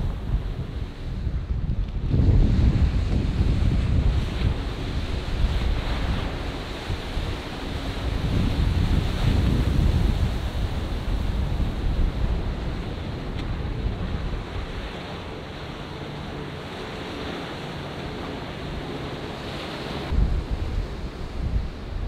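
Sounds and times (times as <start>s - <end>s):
wind buffeting microphone: 0.0s - 22.0s
ocean surf breaking: 2.0s - 22.0s.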